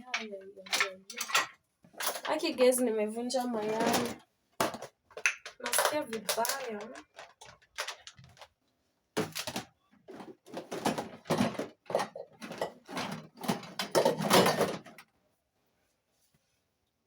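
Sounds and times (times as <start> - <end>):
household items clattering: 0.0 - 8.6, 9.2 - 15.1.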